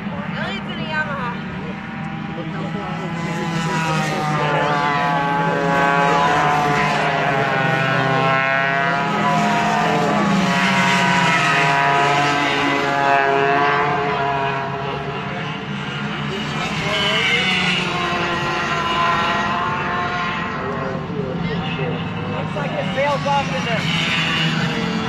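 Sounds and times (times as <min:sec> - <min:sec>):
go-kart engines revving: 0:00.0 - 0:25.0.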